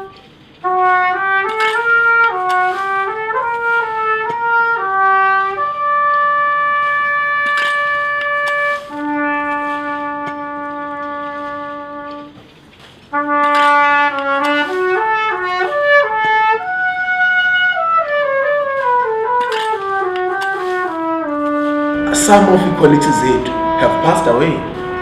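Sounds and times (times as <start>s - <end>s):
trumpet playing: 0.0s - 25.0s.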